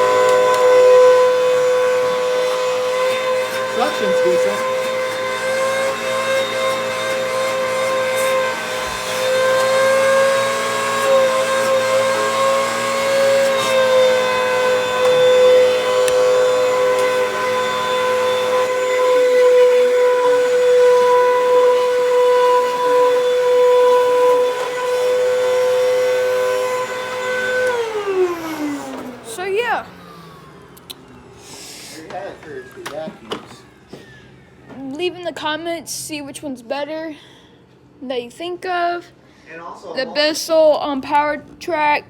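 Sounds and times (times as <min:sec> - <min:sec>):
vacuum cleaner motor whine: 0:00.0 - 0:42.0.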